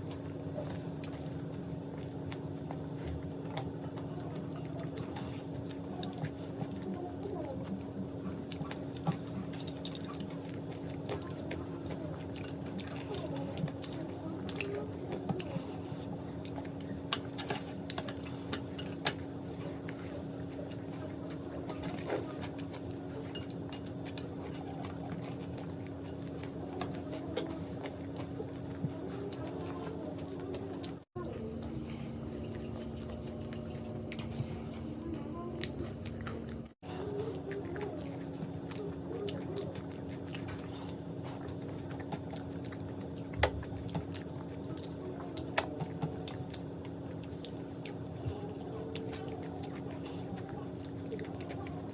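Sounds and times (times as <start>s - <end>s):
chewing puffed rice: 0.0s - 51.9s
steady low hum: 0.0s - 51.9s.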